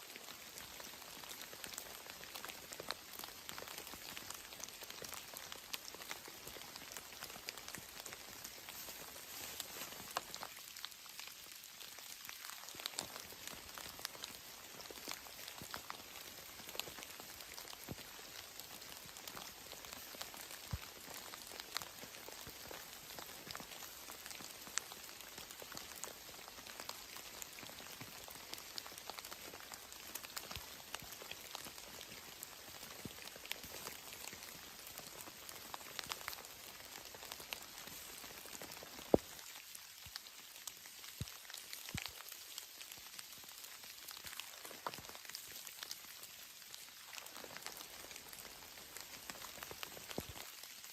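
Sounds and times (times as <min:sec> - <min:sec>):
rain drops ticking: 0:00.0 - 0:50.9.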